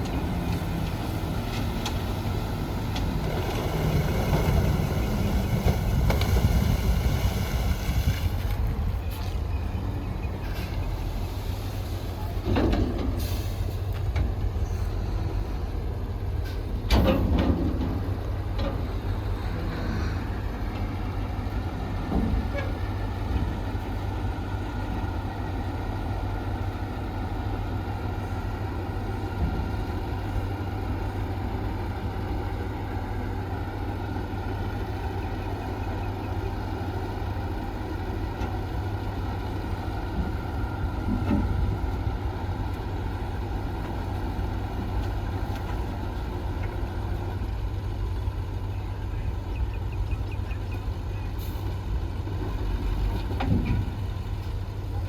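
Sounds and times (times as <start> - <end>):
diesel engine deep rumble: 0.0 - 55.0.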